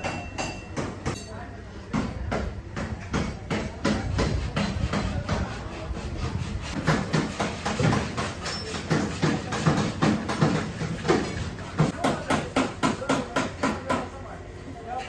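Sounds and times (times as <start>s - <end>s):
hand tool striking sheet metal: 0.0s - 14.1s.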